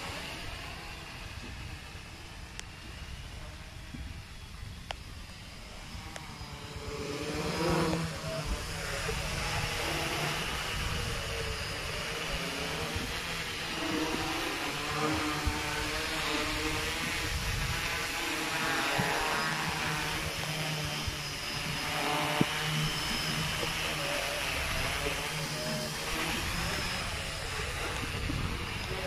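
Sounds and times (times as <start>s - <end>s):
quadcopter propellers whirring: 0.0s - 29.0s.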